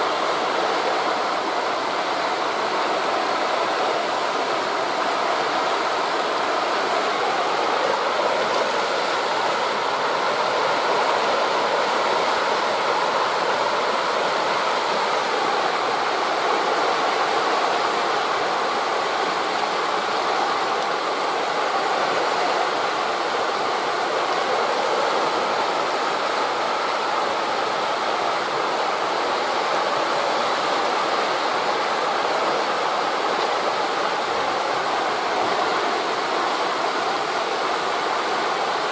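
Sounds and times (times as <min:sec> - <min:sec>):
sea surf: 0:00.0 - 0:38.9
wind through forest leaves: 0:00.0 - 0:38.9.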